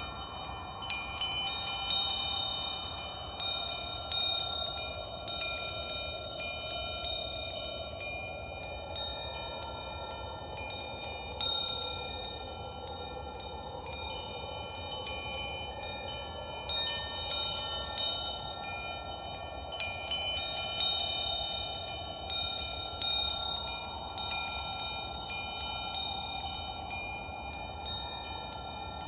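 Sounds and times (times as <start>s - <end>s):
wind chimes ringing: 0.0s - 29.0s.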